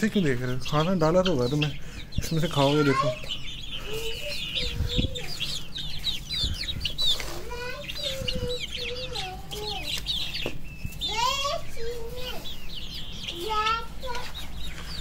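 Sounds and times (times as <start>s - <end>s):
chickens clucking: 0.0s - 15.0s
small birds chirping: 0.0s - 15.0s.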